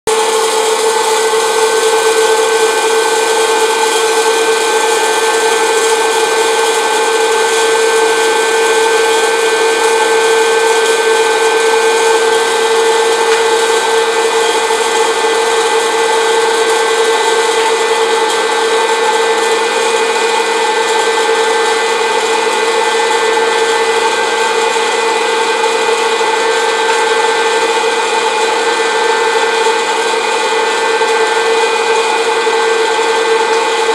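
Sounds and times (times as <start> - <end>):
popcorn popper fan whining: 0.1 - 33.9.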